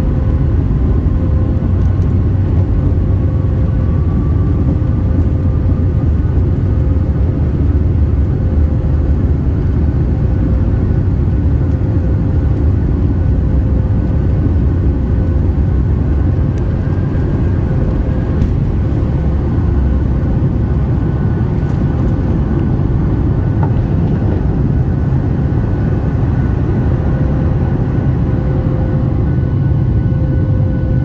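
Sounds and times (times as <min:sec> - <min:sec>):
jet engine whine: 0:00.0 - 0:31.0
jet engines rumbling: 0:00.0 - 0:31.0.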